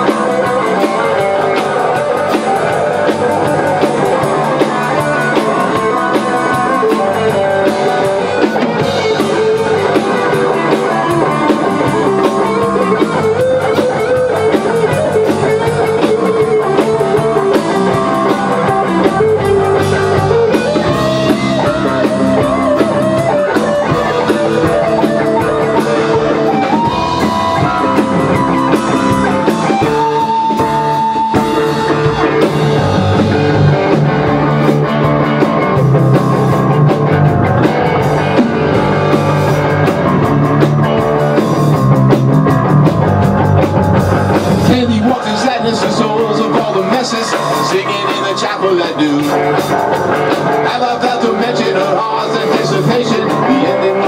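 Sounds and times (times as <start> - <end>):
bending guitar notes: 0.0 - 54.0
drum kit: 0.0 - 54.0
electric guitars: 0.0 - 54.0.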